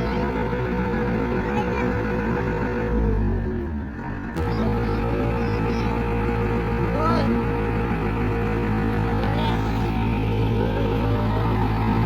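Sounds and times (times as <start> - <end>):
music with low drone: 0.0 - 12.0.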